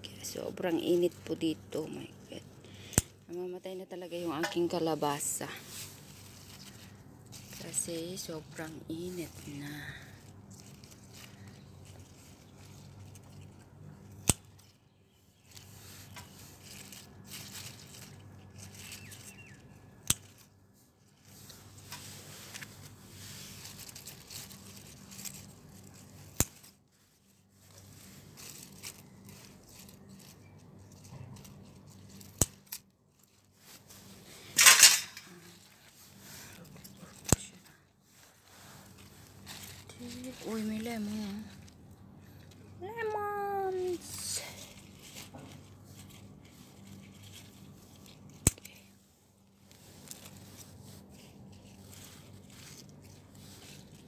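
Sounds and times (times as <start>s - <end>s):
phone handling in leafy plants: 0.2s - 48.9s, 49.6s - 54.0s.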